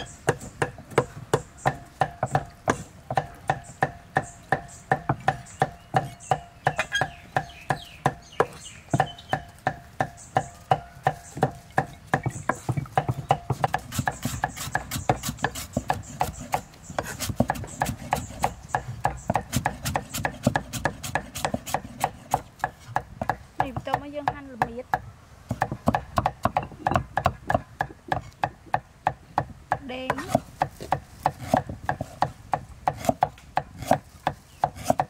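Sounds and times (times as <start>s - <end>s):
cleaver chopping on wooden board: 0.0s - 35.0s.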